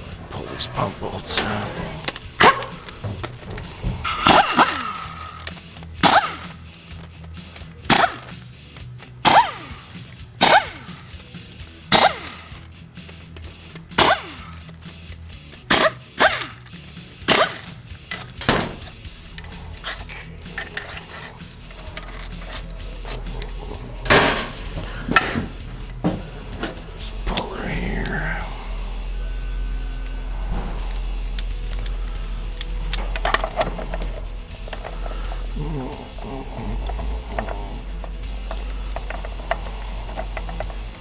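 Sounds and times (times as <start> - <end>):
air impact wrench bursts: 1.0 - 41.0.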